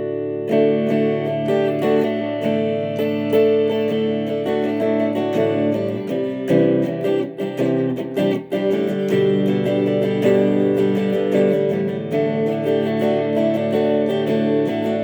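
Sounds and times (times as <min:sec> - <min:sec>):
clean electric guitar chords: 0:00.0 - 0:15.0.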